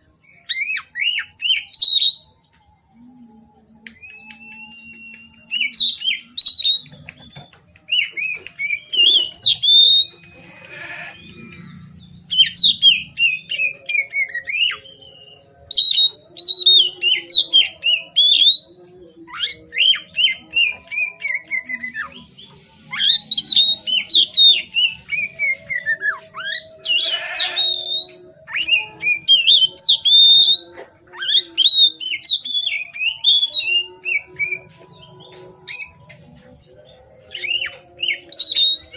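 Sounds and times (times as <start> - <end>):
bird singing whistled phrases: 0.3 - 2.4, 3.9 - 36.1, 37.2 - 38.9.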